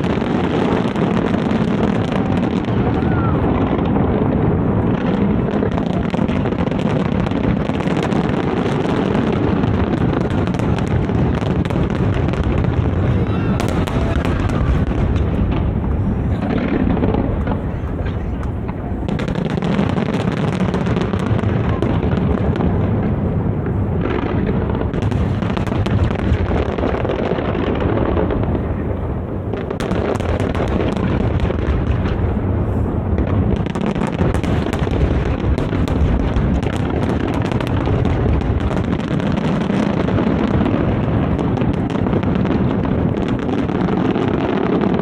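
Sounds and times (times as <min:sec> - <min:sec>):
firework booms: 0:00.0 - 0:45.0
firework crackling pops: 0:00.0 - 0:45.0.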